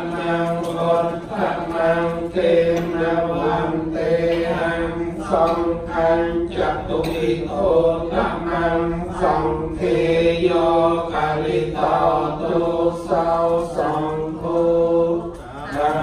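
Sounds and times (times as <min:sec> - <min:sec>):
monks chanting: 0:00.0 - 0:16.0.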